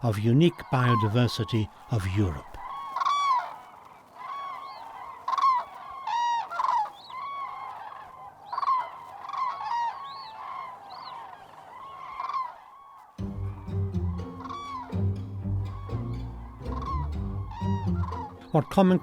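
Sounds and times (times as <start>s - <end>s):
cranes trumpeting calls: 0.5s - 19.0s.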